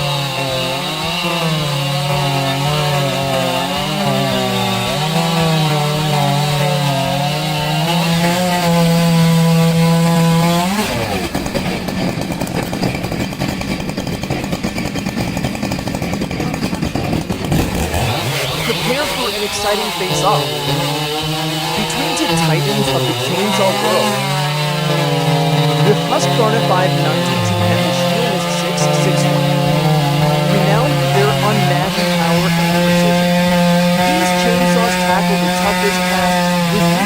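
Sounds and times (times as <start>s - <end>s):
chainsaw cutting wood: 0.0s - 37.0s
chainsaw engine revving: 0.0s - 37.0s.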